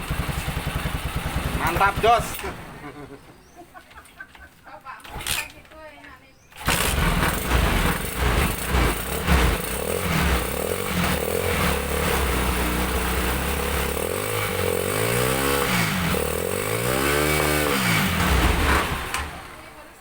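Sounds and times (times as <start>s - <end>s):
motorcycle engine idling and revving: 0.0s - 3.2s, 6.5s - 20.0s.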